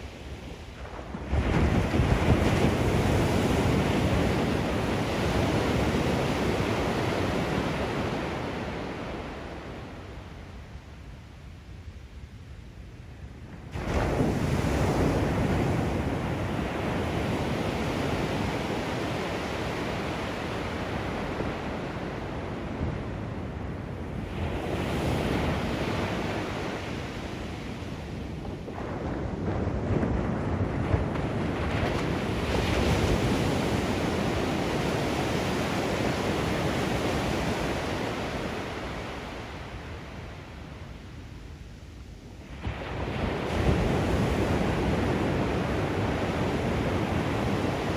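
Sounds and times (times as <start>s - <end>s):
ocean waves crashing: 0.0s - 10.7s, 13.7s - 41.6s, 42.2s - 47.9s.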